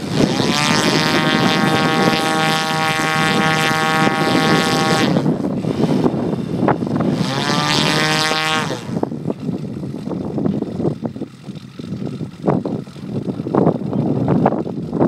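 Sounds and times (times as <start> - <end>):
model plane engine running: 0.0 - 15.0.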